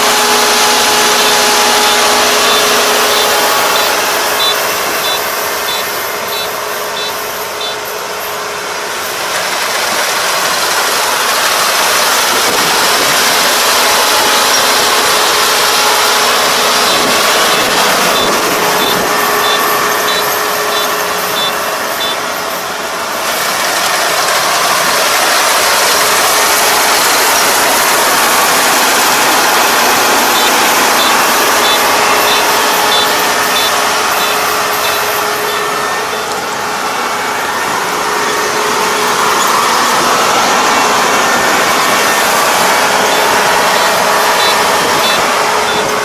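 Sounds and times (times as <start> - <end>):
combine harvester working: 0.0 - 46.0.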